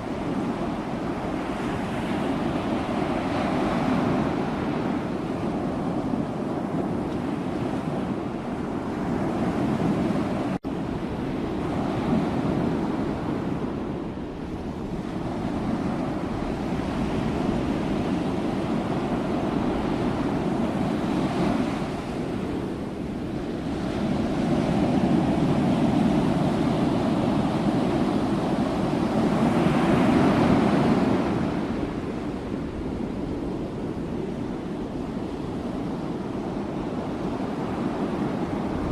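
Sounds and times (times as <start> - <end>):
sea waves washing in: 0.0 - 38.9.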